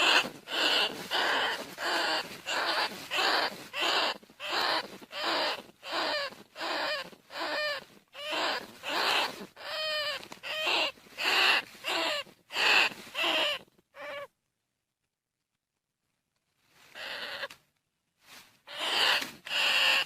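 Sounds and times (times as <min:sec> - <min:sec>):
rat squealing squeaks: 0:00.0 - 0:14.3, 0:17.0 - 0:17.5, 0:18.7 - 0:20.0.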